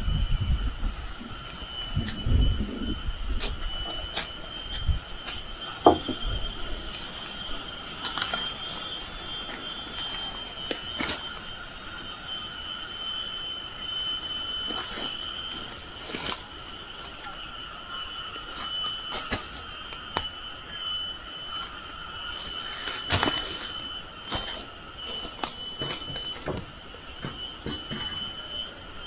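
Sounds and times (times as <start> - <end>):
insects shrilling: 0.0 - 29.0.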